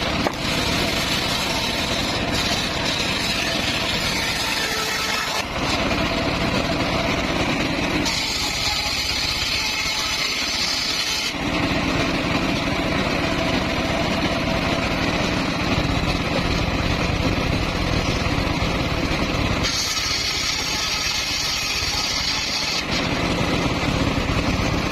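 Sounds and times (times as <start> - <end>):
circular saw running: 0.0 - 24.9.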